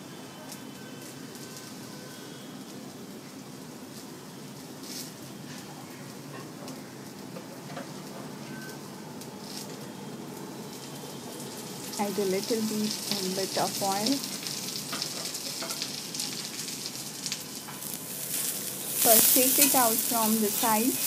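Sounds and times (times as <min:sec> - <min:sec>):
batter sizzling in oil: 0:00.0 - 0:21.0.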